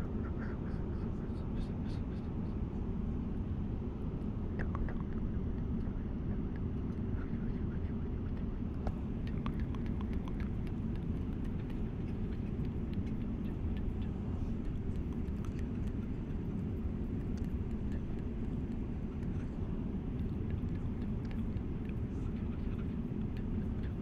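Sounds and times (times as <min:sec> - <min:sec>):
airliner cabin drone: 0:00.0 - 0:24.0.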